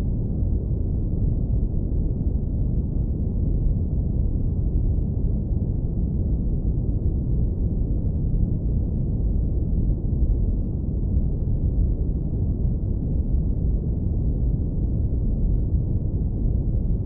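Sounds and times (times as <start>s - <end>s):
deep rumbling brown noise: 0.0s - 17.0s.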